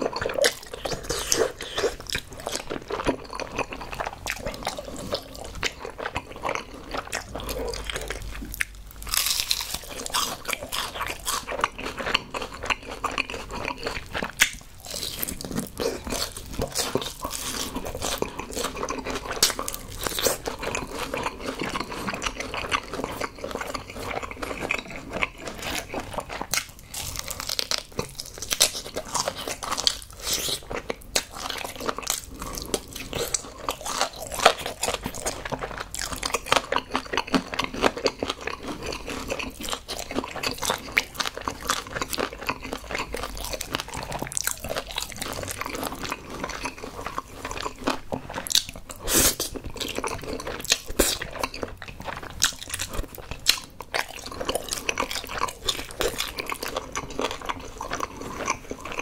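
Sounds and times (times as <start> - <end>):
chewing: 0.0 - 59.0
crunching bites of fried chicken: 0.0 - 59.0.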